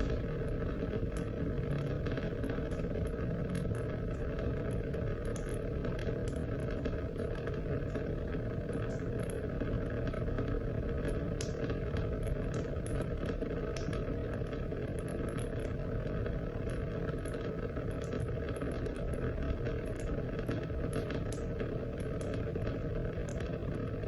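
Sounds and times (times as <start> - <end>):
raindrop ticks: 0.0 - 24.0
steady rain: 0.0 - 24.0.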